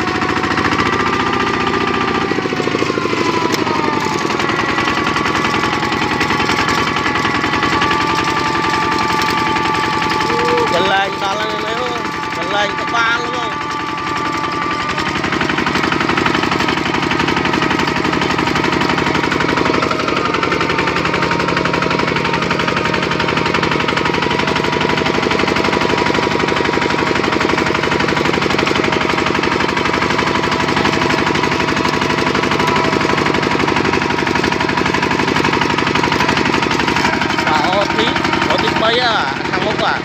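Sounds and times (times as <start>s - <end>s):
diesel tractor engine chugging: 0.0s - 40.0s.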